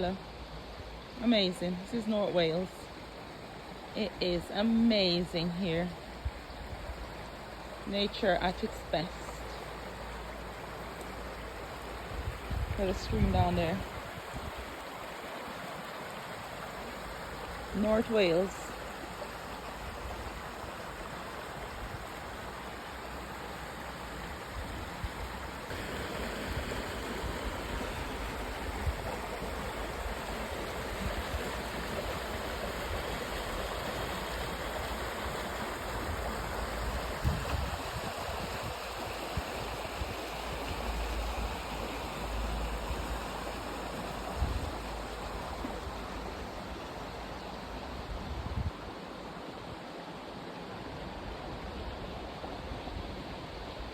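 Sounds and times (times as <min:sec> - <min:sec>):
stream rushing: 0:00.0 - 0:53.9.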